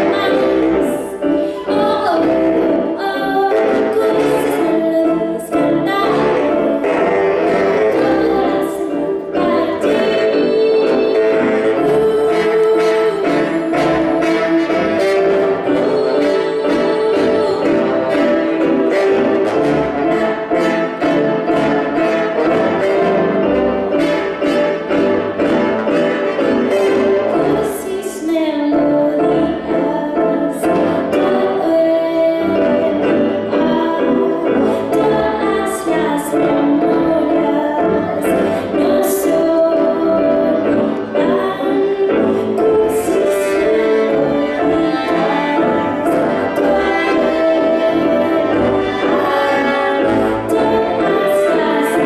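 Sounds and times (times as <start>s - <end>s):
woman singing: 0.0s - 23.4s, 26.7s - 52.0s
live band music: 0.0s - 52.0s.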